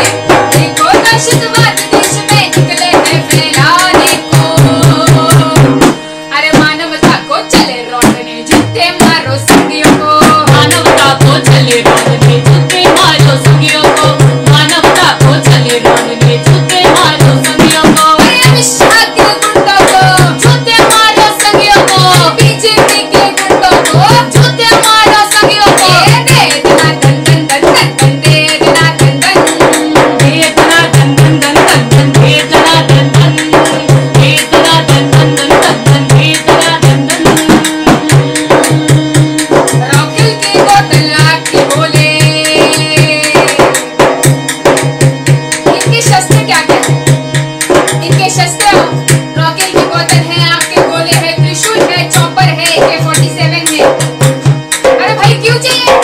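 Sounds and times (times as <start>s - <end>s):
women singing: 0.0s - 43.8s, 45.7s - 47.0s, 47.9s - 54.3s, 55.0s - 56.0s
hand-beaten drum: 0.0s - 56.0s
harmonium chords: 0.0s - 56.0s.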